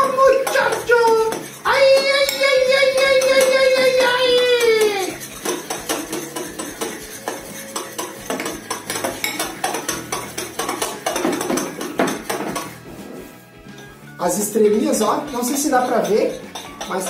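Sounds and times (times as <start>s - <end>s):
spoon stirring slime in glass bowl: 0.0s - 17.0s.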